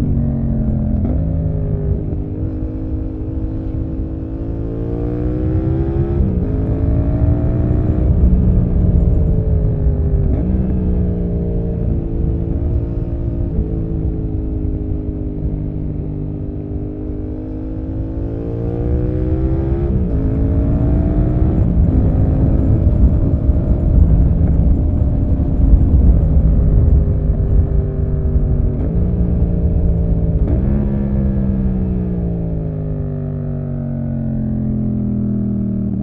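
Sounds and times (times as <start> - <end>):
low wind rumble: 0.0 - 36.0
motorcycle engine accelerating: 0.0 - 36.0.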